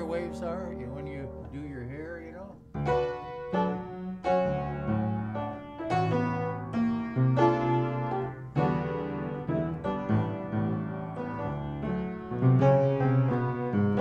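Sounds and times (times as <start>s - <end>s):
piano playing jazz ballad chords: 0.0s - 14.0s.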